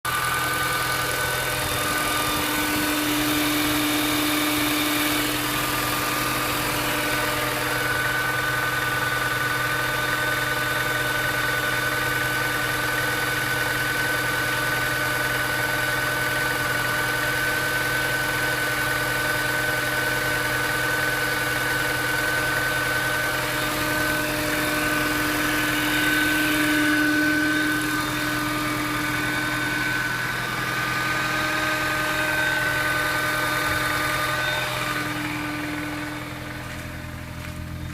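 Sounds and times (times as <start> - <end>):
car engine idling: 0.0 - 37.9
high engine whine: 0.0 - 37.9.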